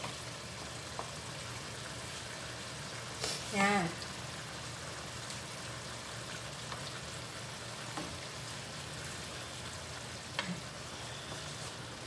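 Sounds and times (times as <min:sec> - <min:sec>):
sauce sizzling in a wok: 0:00.0 - 0:12.0.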